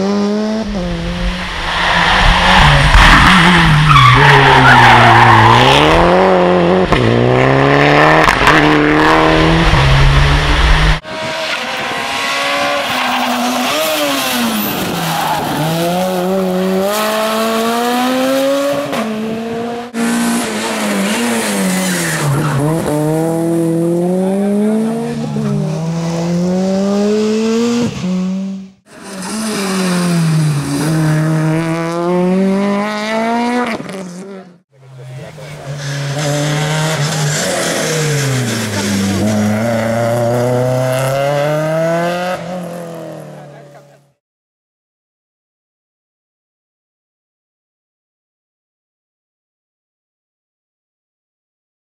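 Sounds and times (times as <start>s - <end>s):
rally car engines revving: 0.0s - 44.1s.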